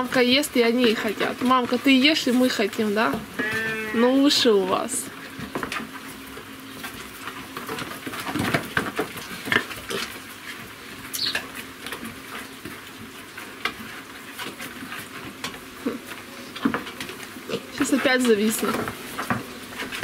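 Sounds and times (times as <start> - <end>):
pigs rustling in straw: 0.0 - 20.0.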